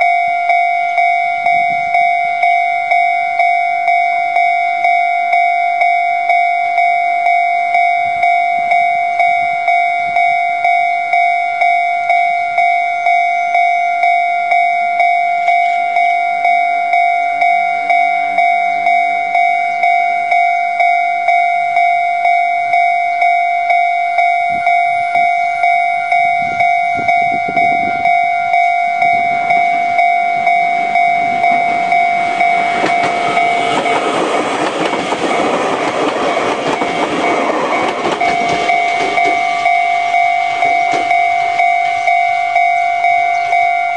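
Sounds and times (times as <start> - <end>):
level crossing bell ringing: 0.0 - 43.9
train approaching: 0.0 - 43.9.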